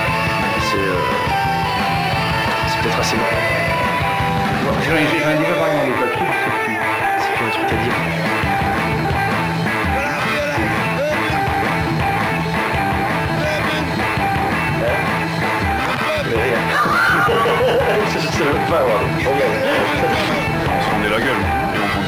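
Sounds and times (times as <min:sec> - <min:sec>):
rock music: 0:00.0 - 0:22.0.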